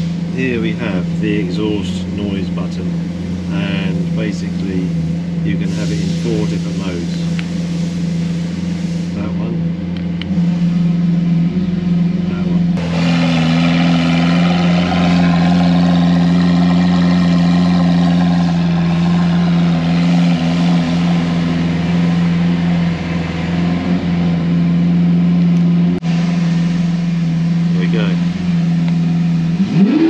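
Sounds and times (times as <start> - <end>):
sports car engine idling: 0.0 - 30.0.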